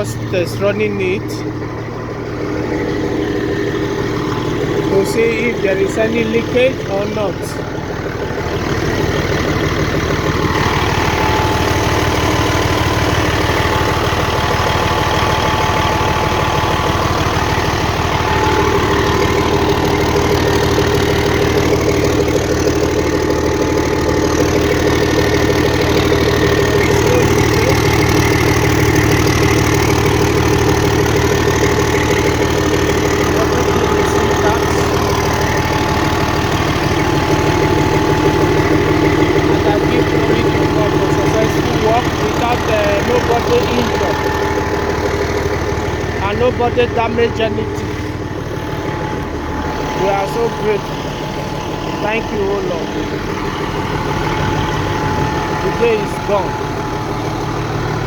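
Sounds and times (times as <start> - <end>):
bulldozer diesel engine idling: 0.0 - 58.0.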